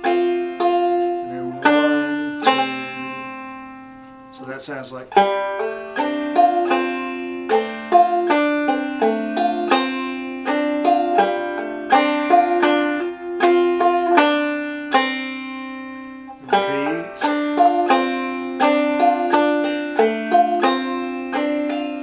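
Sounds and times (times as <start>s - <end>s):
banjo plucked melody: 0.0s - 22.0s.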